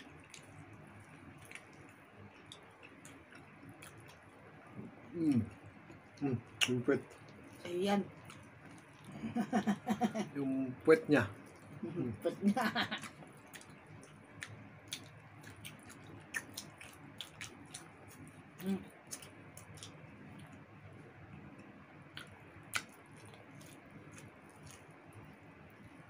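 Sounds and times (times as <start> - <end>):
wet chewing and mouth sounds: 0.0 - 9.3, 10.5 - 12.2, 13.0 - 26.0.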